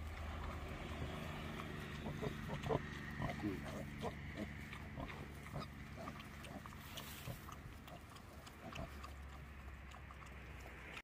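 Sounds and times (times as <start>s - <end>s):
piglets grunting and squeaking: 0.7s - 10.3s.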